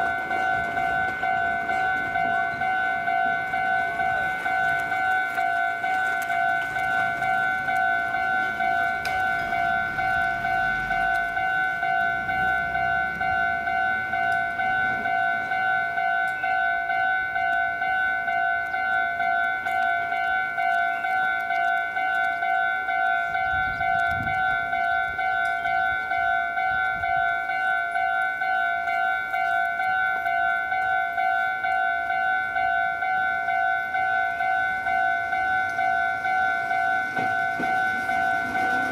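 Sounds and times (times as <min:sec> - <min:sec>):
level crossing alarm bell: 0:00.0 - 0:38.9.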